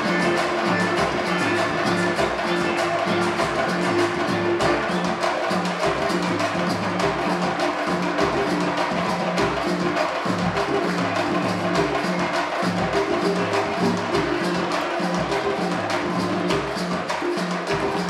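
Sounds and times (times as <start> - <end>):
large drums playing rhythm: 0.0 - 18.0.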